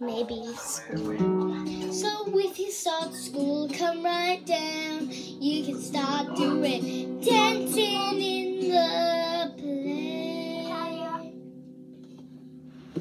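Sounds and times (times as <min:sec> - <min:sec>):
girl singing: 0:00.0 - 0:11.4
acoustic guitar strumming: 0:00.0 - 0:13.0.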